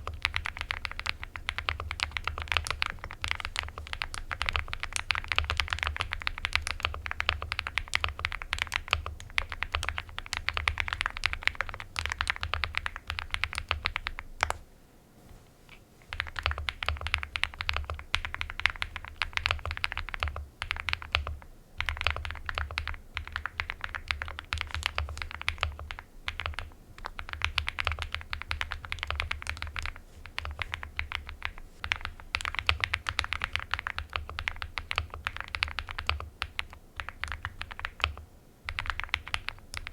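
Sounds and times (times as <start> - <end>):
mechanical keyboard typing: 0.0 - 14.6, 16.1 - 39.9.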